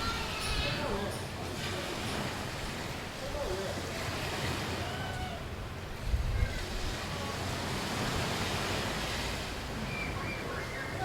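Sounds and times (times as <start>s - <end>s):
ocean waves on beach: 0.0s - 11.0s.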